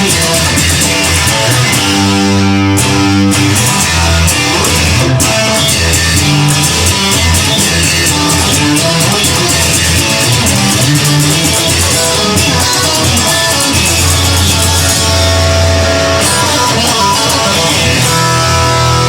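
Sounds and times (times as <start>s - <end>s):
bass guitar: 0.0s - 19.0s
rock guitar chords: 0.0s - 19.0s.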